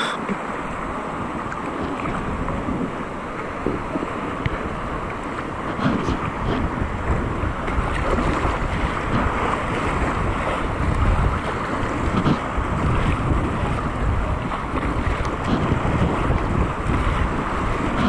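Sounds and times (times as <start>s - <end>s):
paddle strokes splashing: 0.0s - 18.0s
river rushing: 0.0s - 18.0s
wind buffeting microphone: 0.0s - 18.0s.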